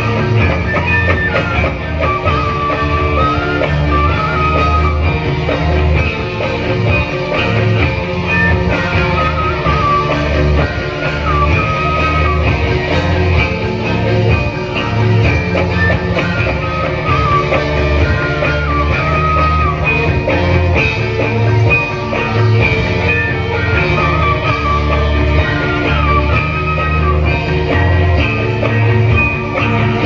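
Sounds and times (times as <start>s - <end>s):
heavy drum and bass beats: 0.0s - 30.0s
sliding lead melody: 0.0s - 30.0s.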